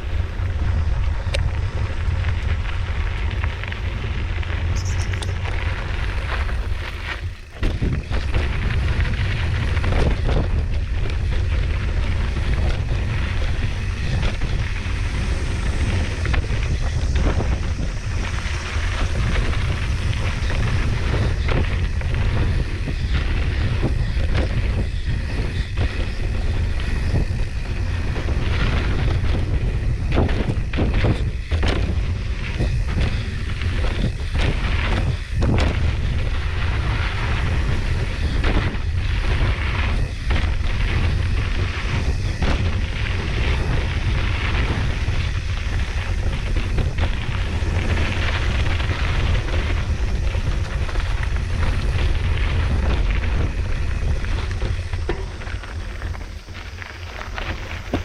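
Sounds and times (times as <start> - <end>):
bike knocking and rattling: 0.0 - 58.0
wind buffeting microphone: 0.0 - 58.0.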